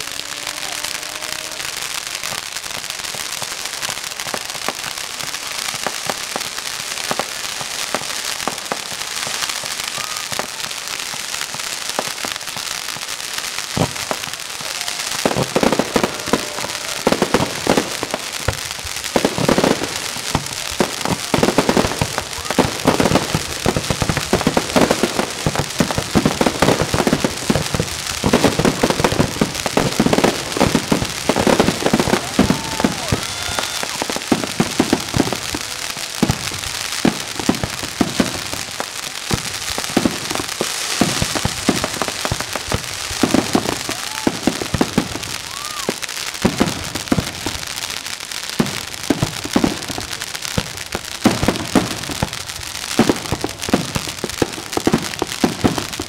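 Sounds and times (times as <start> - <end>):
fireworks whistles: 0.0 - 50.0
fireworks bangs and crackling: 0.0 - 56.0.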